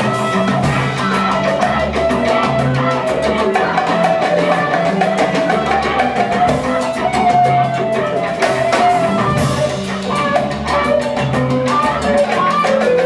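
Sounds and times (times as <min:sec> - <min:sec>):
drum kit with cymbals: 0:00.0 - 0:13.0
held melody line: 0:00.0 - 0:13.0
upright bass: 0:00.0 - 0:13.0.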